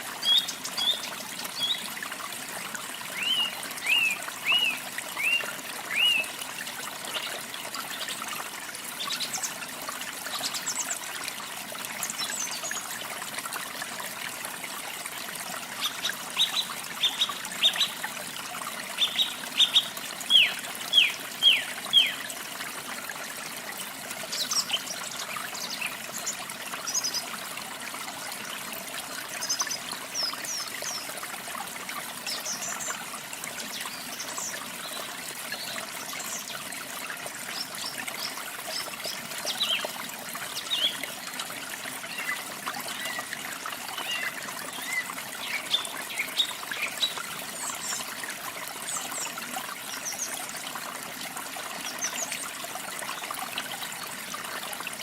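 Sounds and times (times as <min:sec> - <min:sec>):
water trickling over rocks: 0:00.0 - 0:55.0.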